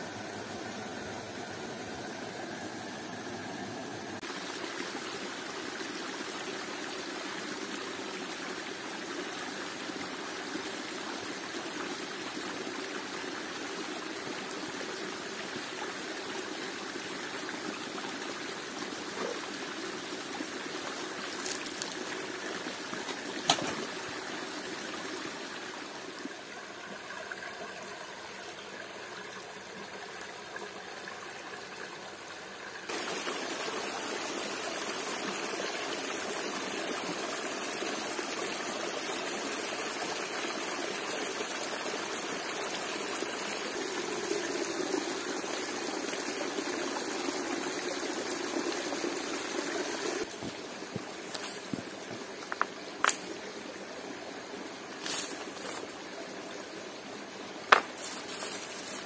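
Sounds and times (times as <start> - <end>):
stream and waterfall rushing: 0.0 - 59.0.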